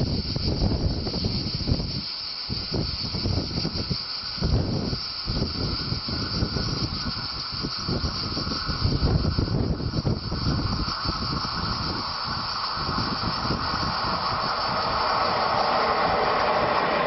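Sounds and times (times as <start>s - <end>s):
freight train rolling: 0.0s - 17.0s
wind rumble on microphone: 0.0s - 17.0s.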